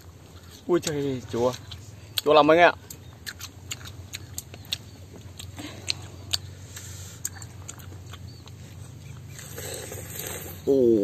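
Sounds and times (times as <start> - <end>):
child chewing crunchy fruit: 0.0 - 11.0
low steady hum: 0.0 - 11.0.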